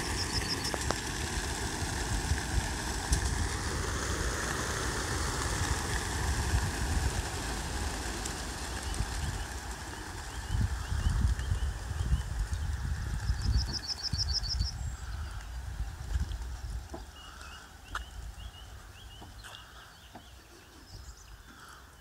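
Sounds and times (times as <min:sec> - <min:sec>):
pigeon wings flapping: 0:00.0 - 0:14.4, 0:15.1 - 0:18.8.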